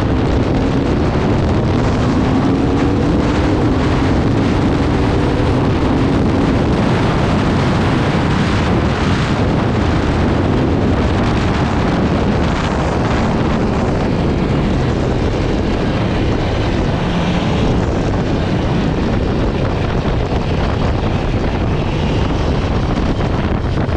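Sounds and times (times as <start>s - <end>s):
motorcycle engine at speed: 0.0s - 23.9s
wind noise on microphone: 0.0s - 23.9s.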